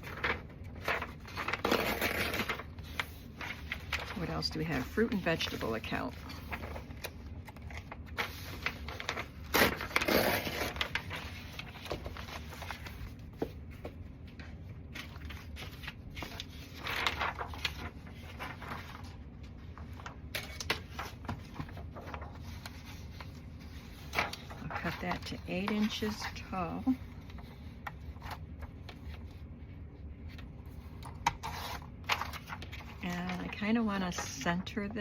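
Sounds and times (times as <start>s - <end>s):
paper rustling: 0.0s - 35.0s.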